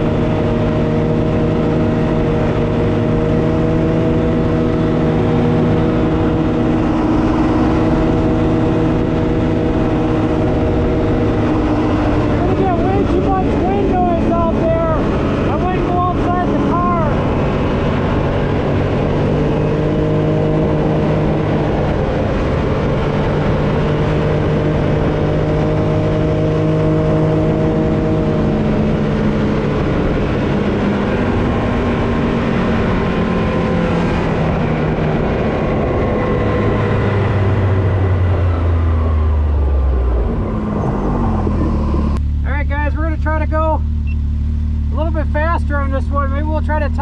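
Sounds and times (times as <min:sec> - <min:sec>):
vehicle engine running hard: 0:00.0 - 0:47.0
wind and tire noise: 0:00.0 - 0:47.0.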